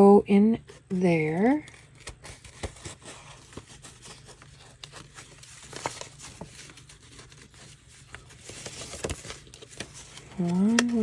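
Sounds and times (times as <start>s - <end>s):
paper rustling and crinkling: 0.6s - 11.0s.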